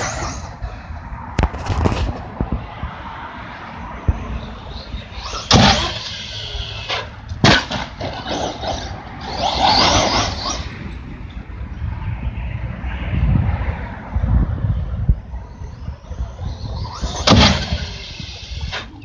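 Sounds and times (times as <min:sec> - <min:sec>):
rc truck driving across grass: 0:00.0 - 0:03.0, 0:03.6 - 0:11.8, 0:14.4 - 0:19.0.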